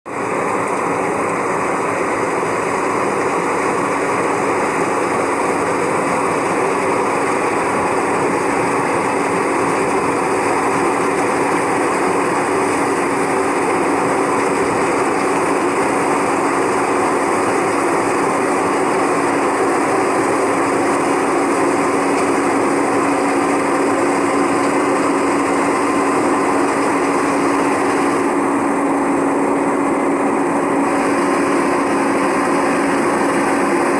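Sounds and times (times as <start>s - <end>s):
harvester running: 0.1s - 33.9s.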